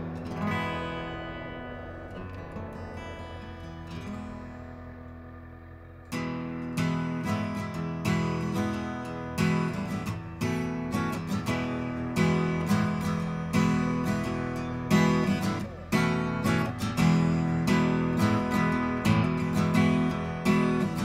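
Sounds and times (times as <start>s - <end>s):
solo guitar chords: 0.0s - 21.0s.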